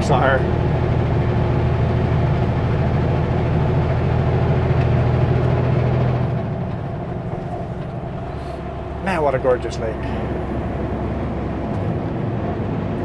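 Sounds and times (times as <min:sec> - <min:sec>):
road noise: 0:00.0 - 0:13.0
truck diesel engine droning: 0:00.0 - 0:13.0.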